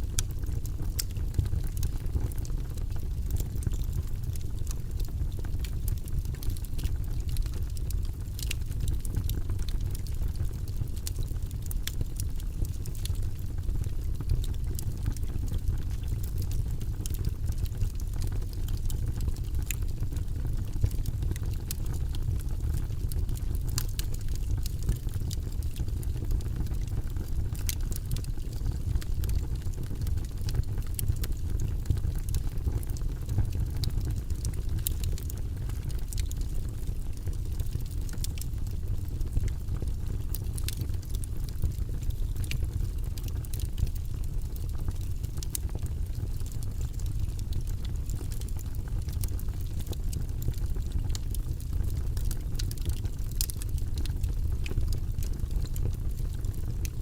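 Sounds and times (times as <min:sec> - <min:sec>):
burning wood crackling and popping: 0:00.0 - 0:57.0
fire low rumble: 0:00.0 - 0:57.0.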